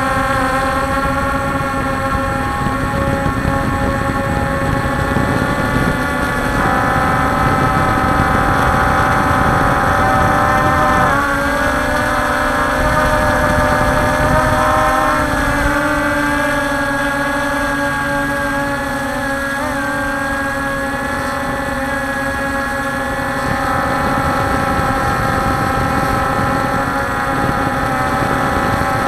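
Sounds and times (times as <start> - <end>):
drone propellers humming: 0.0 - 29.0
wind rumble on microphone: 0.0 - 29.0.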